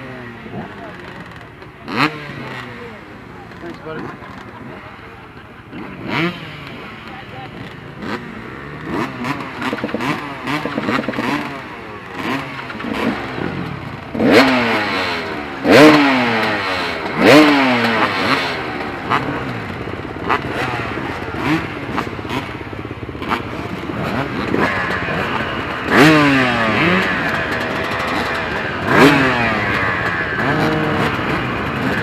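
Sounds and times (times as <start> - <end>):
dirt bike engines idling: 0.0 - 32.0.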